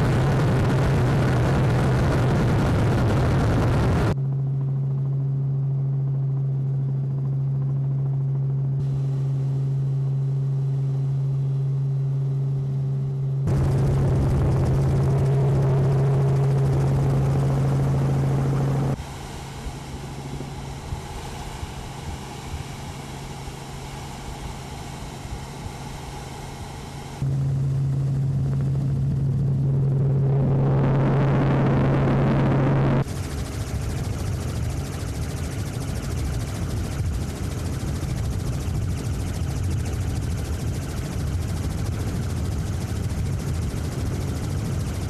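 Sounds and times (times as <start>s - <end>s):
aircraft engine drone: 0.0s - 45.0s.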